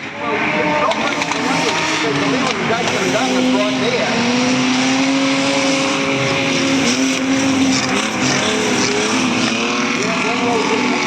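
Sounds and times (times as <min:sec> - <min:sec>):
race car engines running hard: 0:00.0 - 0:11.0.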